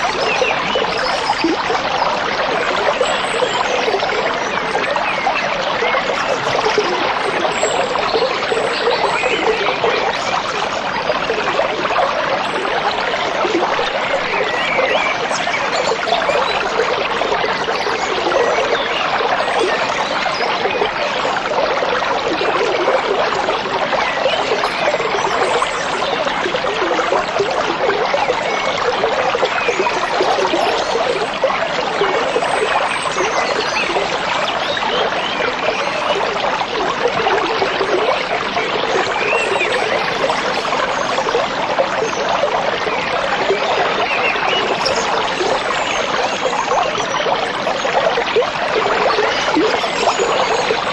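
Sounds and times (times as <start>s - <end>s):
stream babbling over stones: 0.0s - 50.9s.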